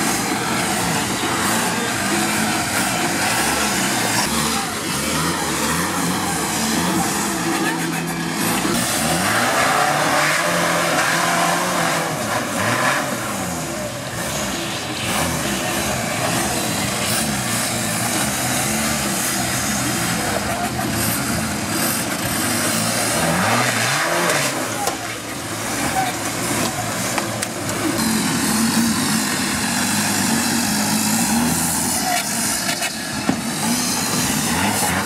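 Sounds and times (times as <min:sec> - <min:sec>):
buggy engine revving: 0:00.0 - 0:35.0.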